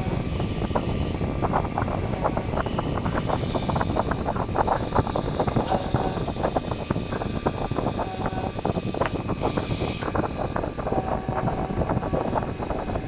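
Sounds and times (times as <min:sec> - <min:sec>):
plotter mechanical rumble: 0:00.0 - 0:13.0.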